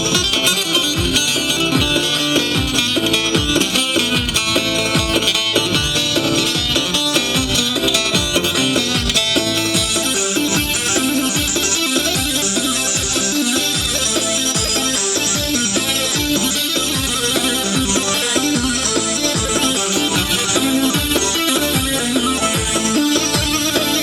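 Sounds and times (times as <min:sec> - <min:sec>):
plucked-string melody: 0:00.0 - 0:24.0
steady drum beat: 0:00.0 - 0:24.0.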